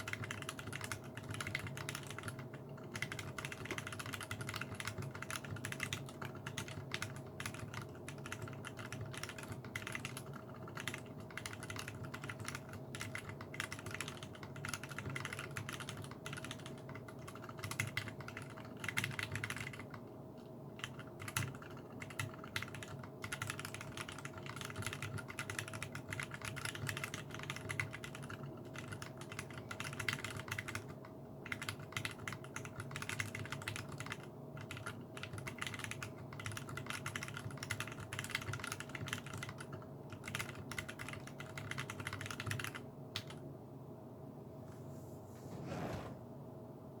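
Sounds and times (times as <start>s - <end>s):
mechanical keyboard typing: 0.0s - 20.0s, 20.8s - 43.4s
faint steady hum: 0.0s - 47.0s.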